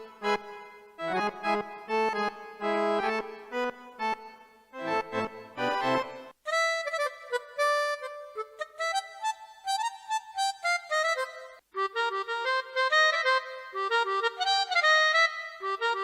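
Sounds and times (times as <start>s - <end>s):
keyboard accordion melody: 0.0s - 16.0s.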